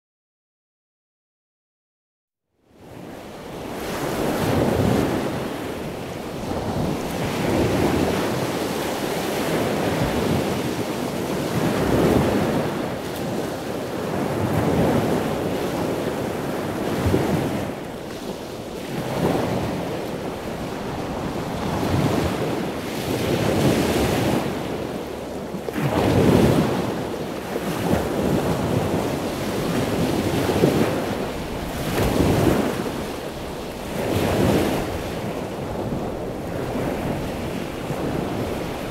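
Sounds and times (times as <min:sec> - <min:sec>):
ocean waves breaking: 0:02.8 - 0:38.9.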